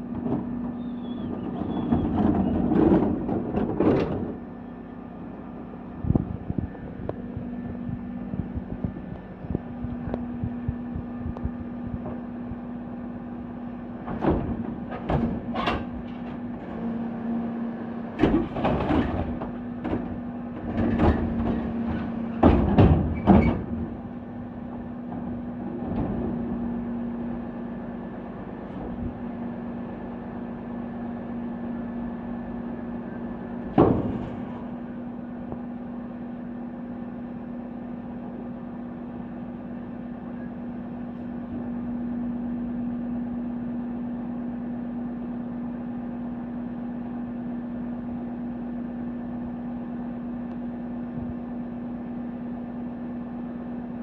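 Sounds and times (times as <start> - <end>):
truck engine and hydraulics humming: 0.0 - 54.0.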